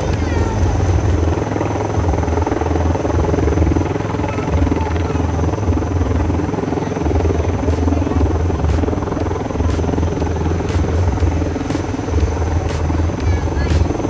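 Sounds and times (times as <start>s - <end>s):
helicopter rotor and engine rumble: 0.0s - 14.0s.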